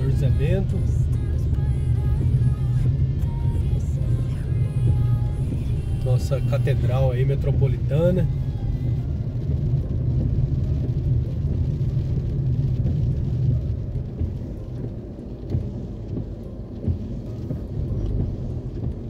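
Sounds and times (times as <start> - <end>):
car engine and tyres on wet street: 0.0 - 19.0
windscreen wipers: 0.0 - 19.0.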